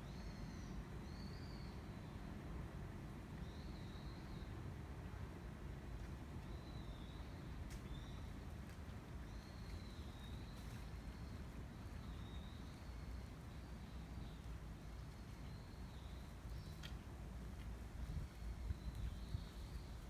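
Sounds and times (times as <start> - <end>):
wind through bamboo: 0.0 - 20.0.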